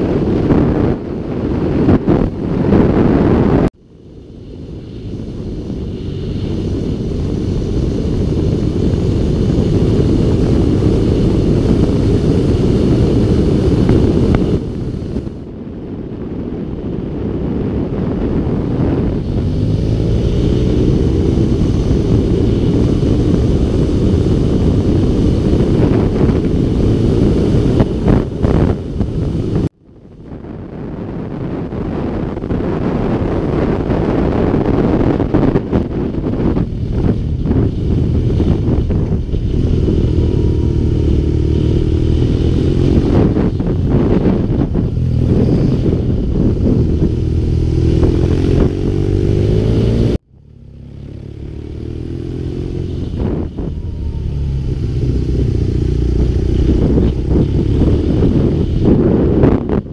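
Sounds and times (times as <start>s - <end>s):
motorcycle engine: 0.0s - 15.6s, 17.5s - 59.9s
wind rumble on microphone: 0.0s - 59.9s.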